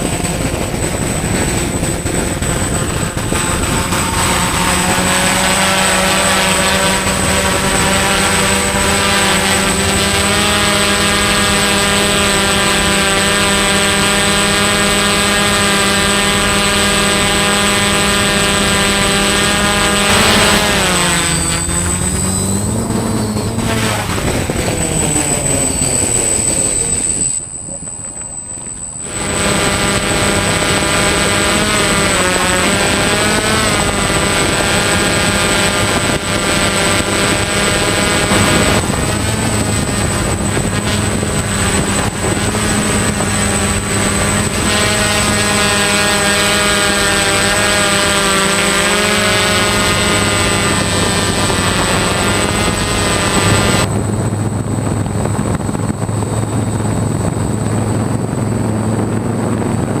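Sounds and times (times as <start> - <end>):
drone motors whining: 0.0 - 60.0.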